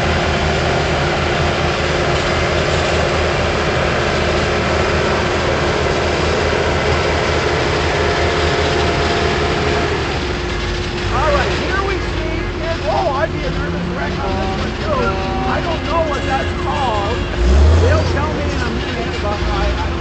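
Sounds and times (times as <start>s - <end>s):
bulldozer diesel engine rumbling: 0.0s - 20.0s.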